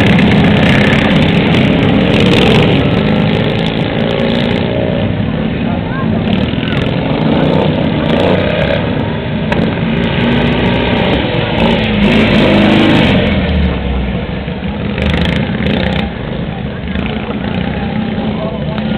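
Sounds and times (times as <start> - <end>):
lawn mower engines racing: 0.0 - 18.9.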